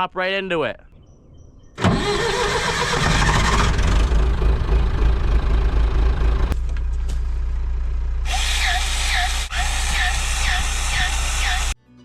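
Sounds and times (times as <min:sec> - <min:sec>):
excavator diesel engine: 0:01.8 - 0:11.8.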